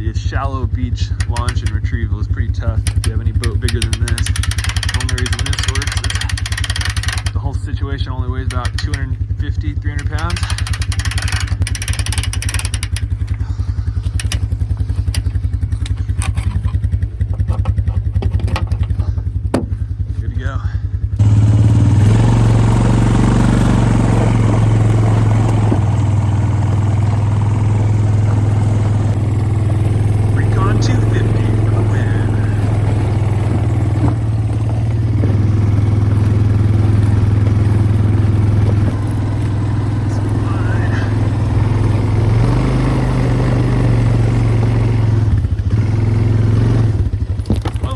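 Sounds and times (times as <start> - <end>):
small engine idling: 0.0 - 47.9
gear clicking and clattering: 1.1 - 7.6, 8.4 - 19.9, 21.2 - 47.9.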